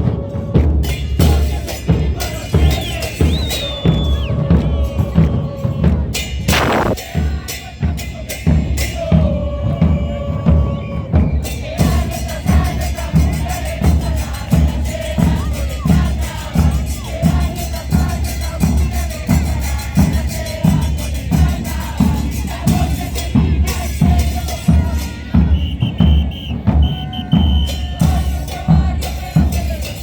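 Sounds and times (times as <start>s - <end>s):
bass drums playing steady beat: 1.0s - 7.8s, 11.4s - 30.0s
crowd voices: 1.2s - 8.3s, 9.0s - 30.0s.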